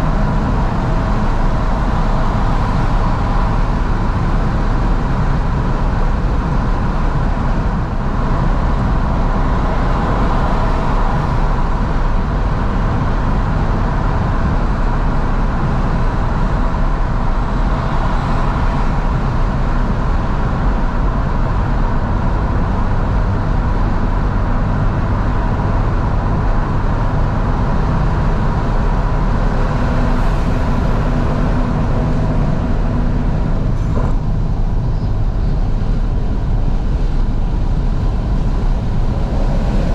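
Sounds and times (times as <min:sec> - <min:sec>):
air rushing through windows: 0:00.0 - 0:39.9
car engine hum: 0:00.0 - 0:39.9
tyre and road noise: 0:00.0 - 0:39.9.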